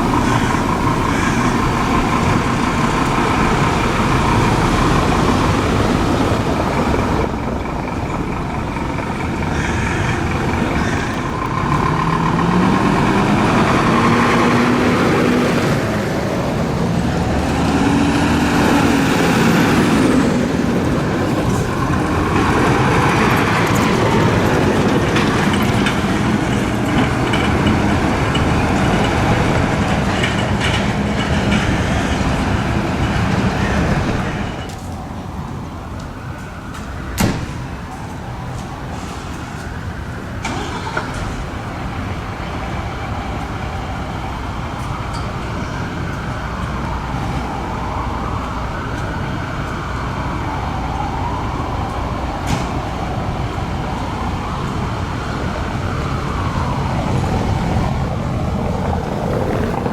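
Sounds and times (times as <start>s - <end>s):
fire engines driving: 0.0s - 59.9s
street traffic: 0.0s - 59.9s.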